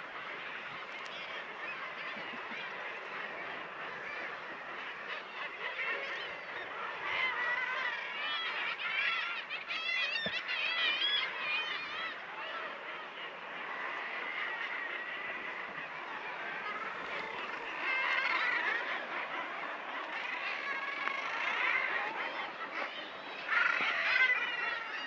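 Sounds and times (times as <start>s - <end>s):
seabird colony calling: 0.0s - 25.0s.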